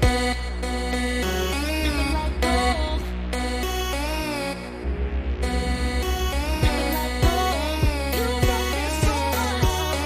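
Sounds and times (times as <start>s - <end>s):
electronic music with synth lead: 0.0s - 10.0s.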